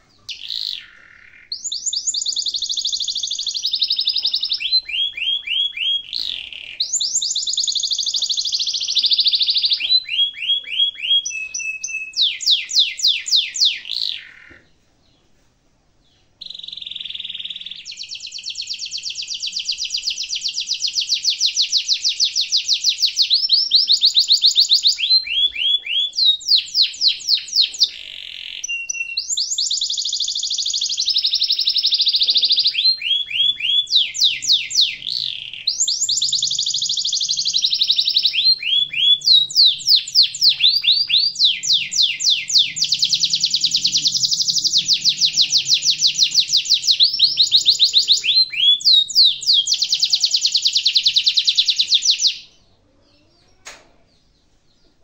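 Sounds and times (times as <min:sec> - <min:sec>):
canary singing trills: 0:00.0 - 0:15.4, 0:16.0 - 0:55.0.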